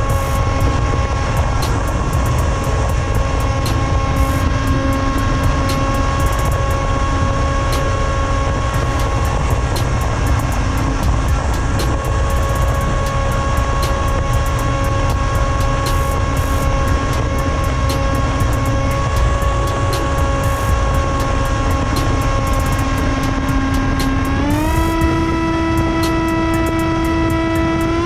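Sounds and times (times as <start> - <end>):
electric motor and propeller whine: 0.0 - 28.0
wind rumble on microphone: 0.0 - 28.0.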